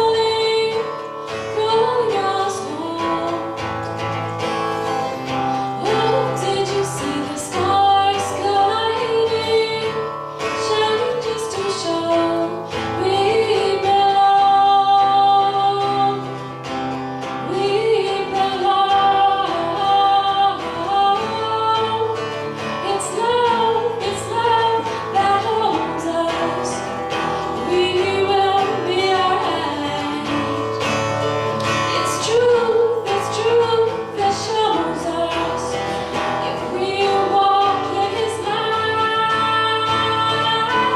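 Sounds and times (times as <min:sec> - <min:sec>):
acoustic guitar: 0:00.0 - 0:40.9
woman singing: 0:00.0 - 0:40.9.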